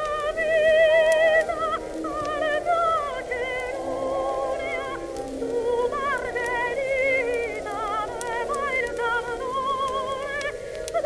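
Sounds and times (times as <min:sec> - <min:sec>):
old popular song recording: 0:00.0 - 0:11.0
record crackles: 0:00.0 - 0:11.0.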